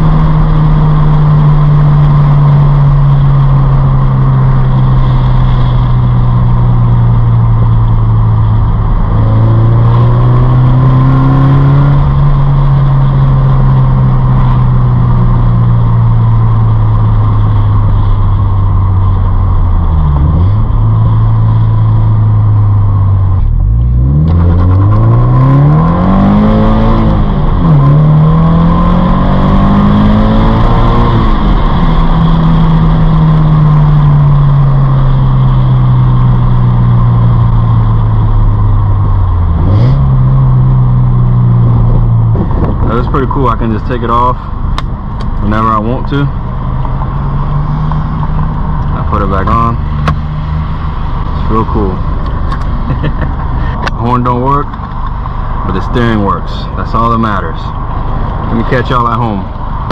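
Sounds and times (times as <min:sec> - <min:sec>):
car engine revving: 0:00.0 - 0:59.9
road noise: 0:00.0 - 0:59.9.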